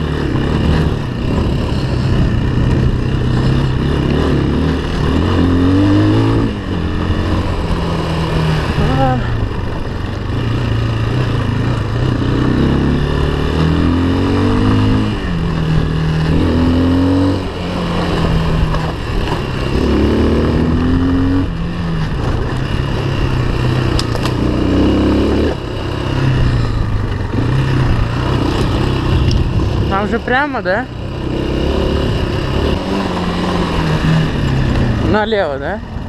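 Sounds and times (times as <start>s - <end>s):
off-road vehicle engine accelerating: 0.0s - 36.0s
wind and terrain rushing: 0.0s - 36.0s.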